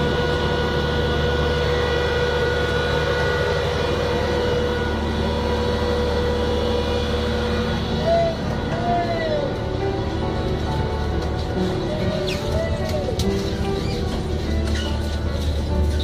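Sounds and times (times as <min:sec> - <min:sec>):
machinery hum: 0:00.0 - 0:16.0
whining tones: 0:00.0 - 0:16.0.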